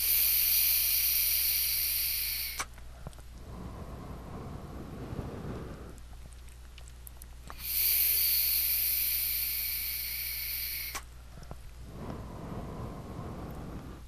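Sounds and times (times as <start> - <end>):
loud steady hiss of air: 0.0 - 2.8, 3.4 - 6.0, 7.5 - 14.0
breathy exhale: 0.0 - 6.0, 7.5 - 14.0.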